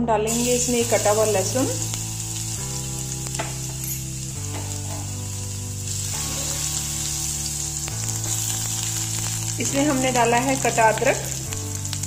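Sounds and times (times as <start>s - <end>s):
background music with held chords: 0.0s - 12.0s
garlic sizzling in a pan: 0.3s - 12.0s.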